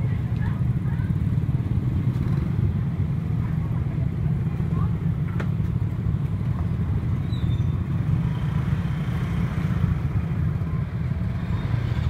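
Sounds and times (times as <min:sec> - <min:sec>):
motorbike engines rumbling: 0:00.0 - 0:12.0.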